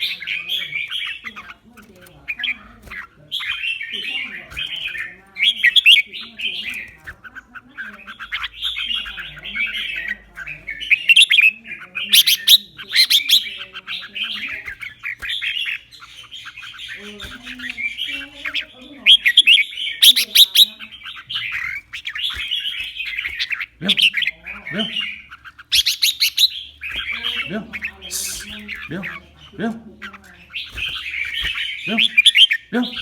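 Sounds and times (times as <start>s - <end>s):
bird singing: 0.0s - 33.0s.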